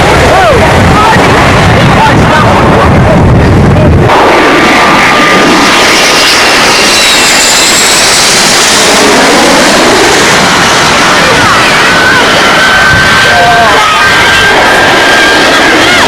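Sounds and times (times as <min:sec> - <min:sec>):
jet engine roaring past: 0:00.0 - 0:16.0.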